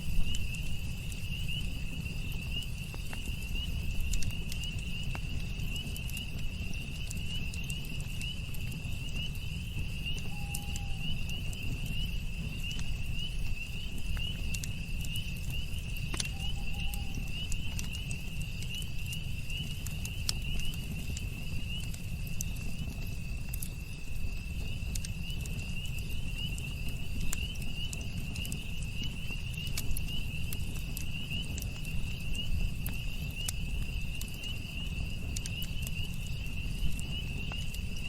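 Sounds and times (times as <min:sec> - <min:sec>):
campfire crackling and popping: 0:00.0 - 0:38.0
night insects trilling: 0:00.0 - 0:38.0.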